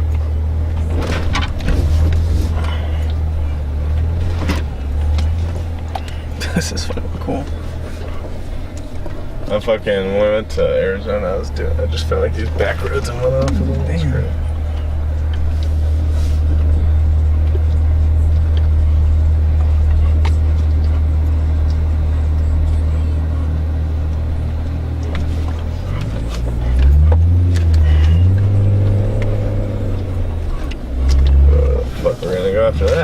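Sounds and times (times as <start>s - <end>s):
engine and drivetrain drone: 0.0s - 33.0s.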